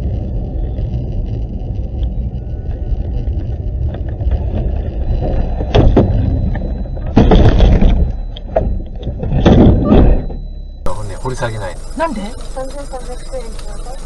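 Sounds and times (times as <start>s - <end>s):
car rumble inside cabin: 0.0s - 14.0s.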